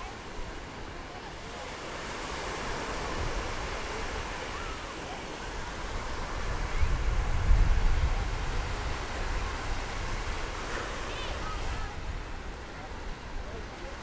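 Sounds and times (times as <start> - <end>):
faint voices of people: 0.0 - 14.0
surf washing onto sandy beach: 0.0 - 14.0.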